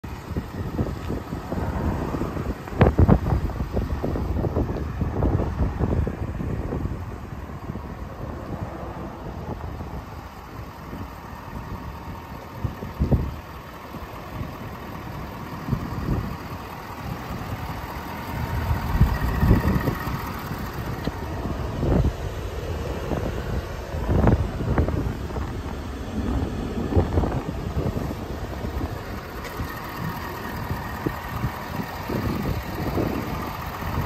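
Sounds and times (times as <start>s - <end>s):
wind buffeting a microphone: 0.1s - 34.0s.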